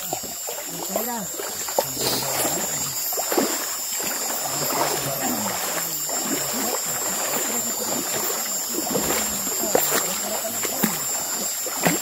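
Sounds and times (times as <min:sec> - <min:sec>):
river water gurgling: 0:00.0 - 0:12.0
steady high-pitched drone: 0:00.0 - 0:12.0.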